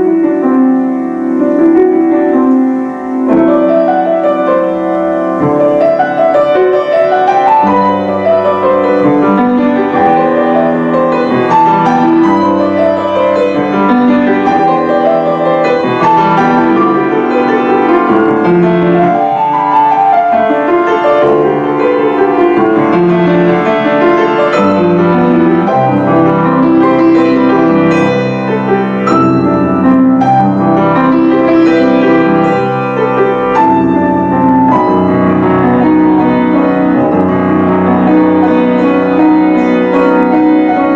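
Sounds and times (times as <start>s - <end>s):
classical piano duet: 0.0s - 40.9s.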